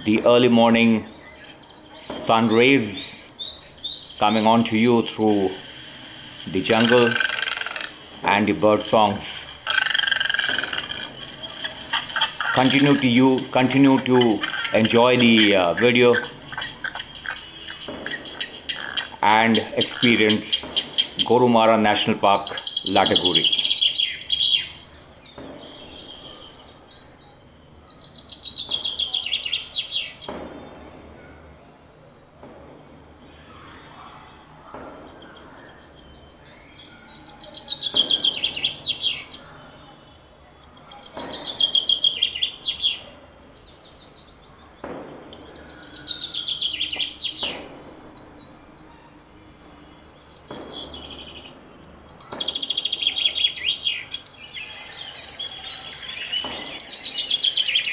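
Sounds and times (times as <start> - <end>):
bird singing falling phrase: 0.0 - 57.9.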